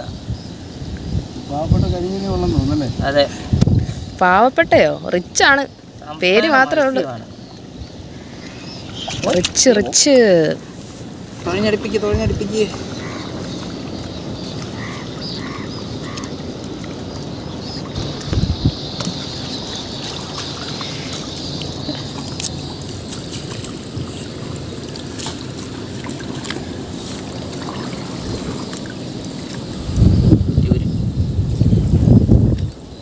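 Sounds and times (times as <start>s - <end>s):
paddling through water: 5.8s - 33.0s.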